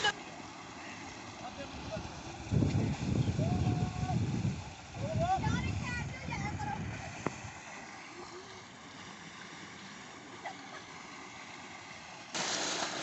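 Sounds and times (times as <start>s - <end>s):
water gushing into a tank: 0.0s - 13.0s.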